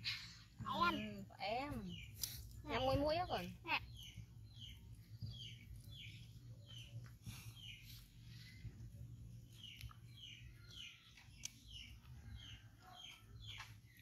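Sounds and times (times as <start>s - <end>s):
low steady hum: 0.0s - 14.0s
bird chirping: 0.1s - 14.0s.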